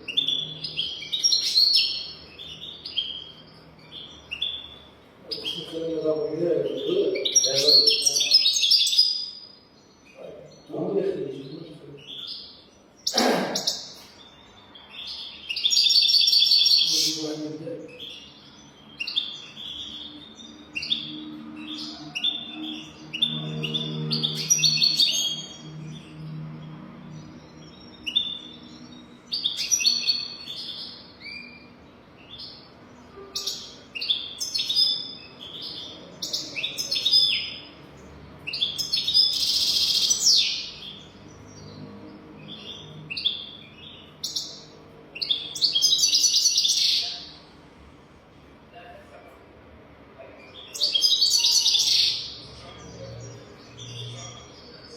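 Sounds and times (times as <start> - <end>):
goldfinch singing: 0.0 - 47.3, 50.4 - 54.9.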